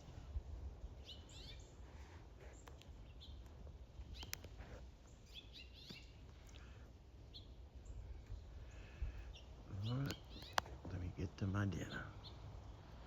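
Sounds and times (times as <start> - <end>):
small birds chirping: 0.9 - 13.0.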